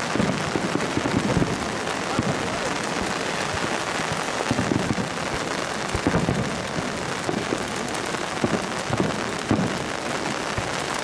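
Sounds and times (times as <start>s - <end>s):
heavy rain on umbrella: 0.0s - 11.0s.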